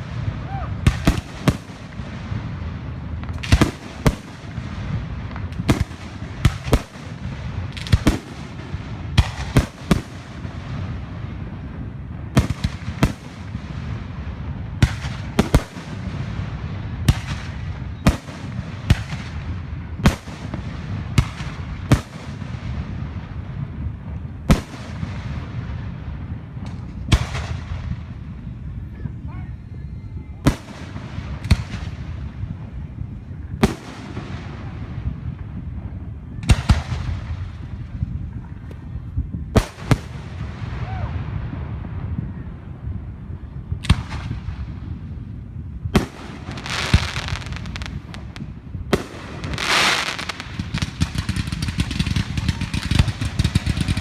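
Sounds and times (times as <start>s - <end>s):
fireworks bangs: 0.0s - 29.5s, 30.2s - 54.0s
fireworks rumble and crackle: 0.0s - 54.0s.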